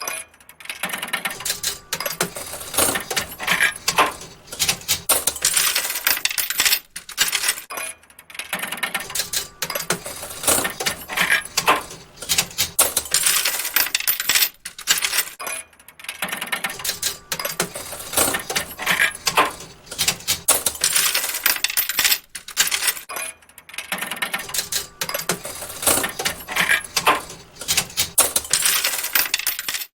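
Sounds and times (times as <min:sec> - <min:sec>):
slot machine coins clinking: 0:01.2 - 0:07.7, 0:09.0 - 0:15.4, 0:16.7 - 0:23.1, 0:24.2 - 0:29.9.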